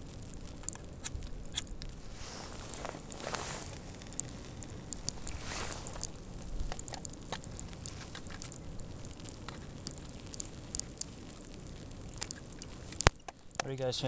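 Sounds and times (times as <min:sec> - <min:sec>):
snow pellets pattering: 0:00.0 - 0:14.0.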